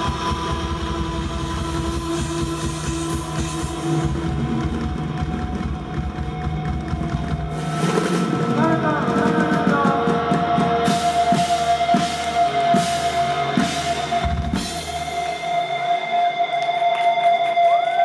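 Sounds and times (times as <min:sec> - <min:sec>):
low bass: 0:00.0 - 0:16.4
live rock band playing: 0:00.0 - 0:18.0.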